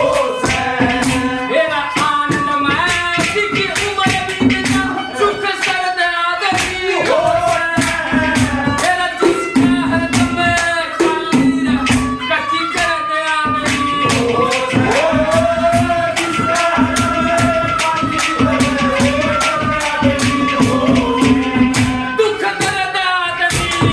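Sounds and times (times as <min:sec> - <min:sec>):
repeating percussion beat: 0:00.0 - 0:23.9.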